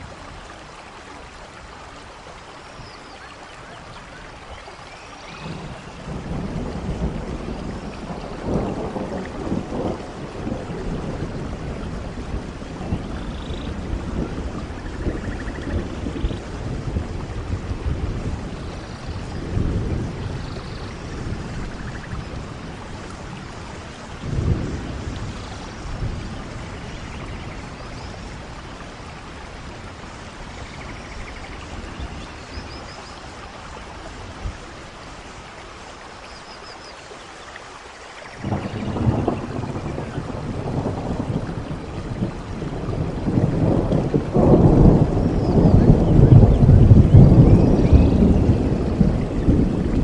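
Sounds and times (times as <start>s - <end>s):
steady rainfall: 0.0s - 50.0s.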